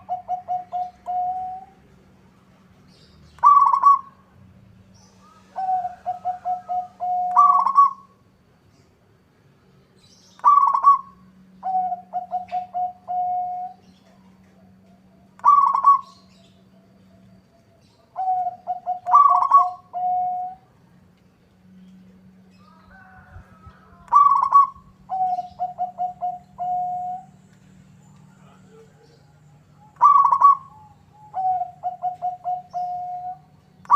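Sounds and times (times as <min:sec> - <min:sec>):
dove cooing song: 0:00.0 - 0:01.9, 0:02.9 - 0:04.4, 0:05.1 - 0:08.2, 0:10.3 - 0:20.8, 0:22.0 - 0:27.6, 0:28.3 - 0:33.9.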